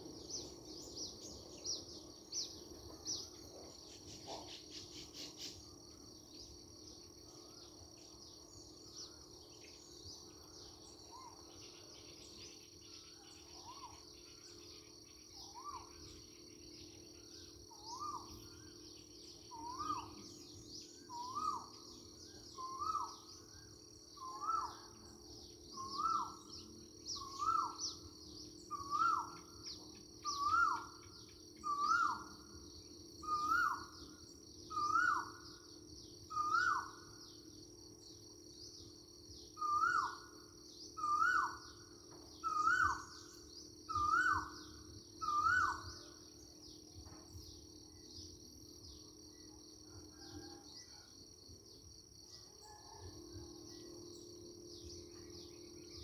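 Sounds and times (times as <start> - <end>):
high insect chirring: 0.0 - 50.7.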